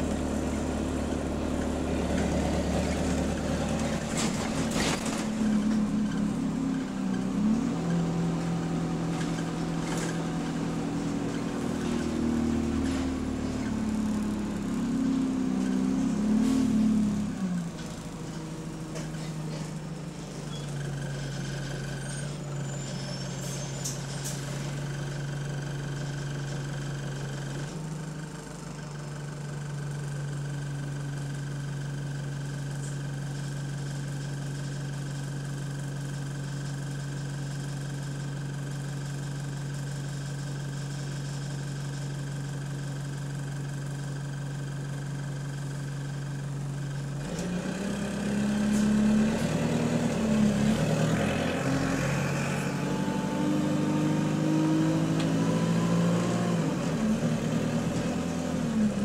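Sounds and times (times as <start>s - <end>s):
bus diesel engine idling: 0.0s - 49.6s.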